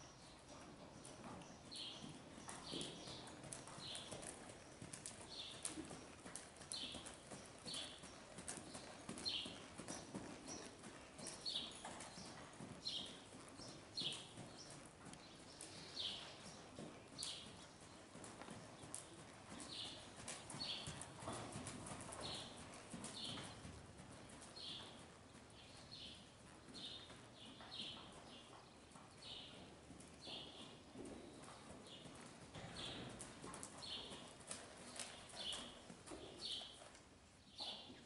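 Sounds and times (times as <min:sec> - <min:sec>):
horse hooves trotting on dirt: 0:00.0 - 0:38.0.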